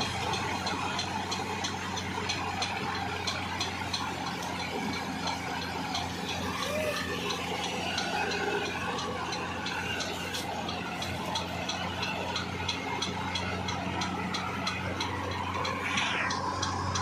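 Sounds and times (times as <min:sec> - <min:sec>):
light regular ticking: 0:00.0 - 0:17.0
tractor diesel engines idling: 0:00.0 - 0:17.0.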